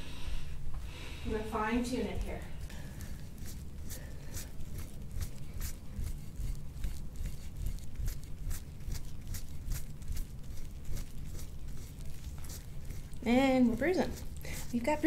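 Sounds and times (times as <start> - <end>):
metal tool scraping skin: 2.0 - 15.0.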